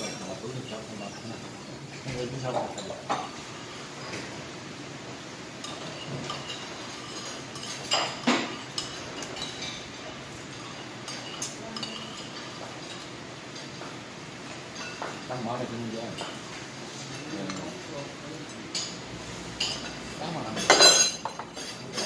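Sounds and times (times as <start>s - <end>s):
metal spoons clinking on bowls: 0.0s - 4.2s, 5.6s - 22.0s.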